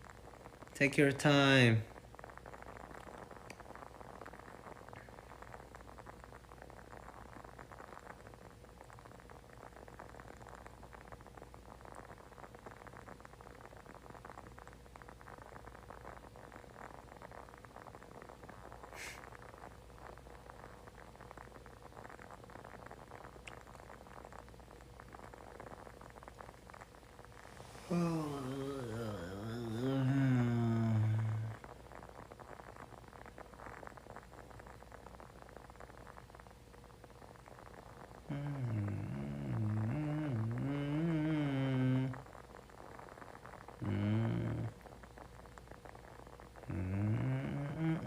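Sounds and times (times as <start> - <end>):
candle crackling: 0.0 - 48.0
faint steady hum: 0.0 - 48.0.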